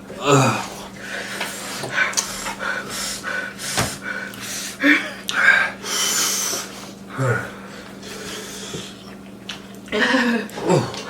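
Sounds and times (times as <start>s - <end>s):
person gasping and panting: 0.2s - 8.8s, 10.0s - 11.0s.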